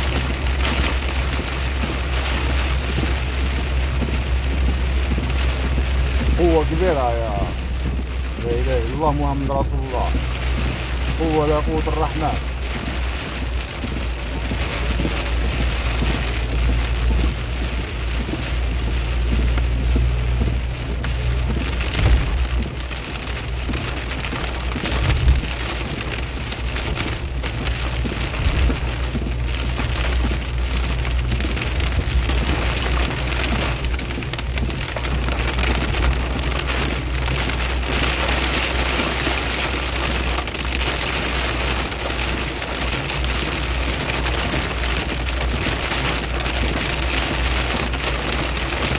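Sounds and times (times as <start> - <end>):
low engine and road rumble: 0.0 - 48.9
rain and wet road hiss: 0.0 - 48.9.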